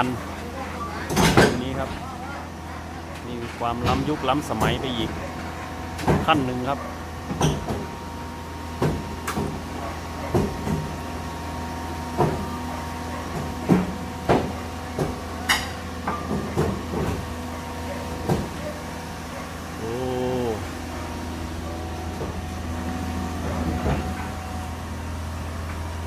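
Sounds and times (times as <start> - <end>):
excavator diesel hum: 0.0 - 26.0.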